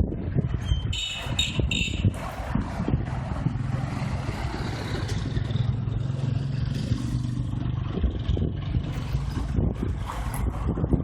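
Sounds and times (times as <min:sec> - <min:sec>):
road traffic noise: 0:00.0 - 0:11.0
vehicle engine running: 0:00.3 - 0:11.0.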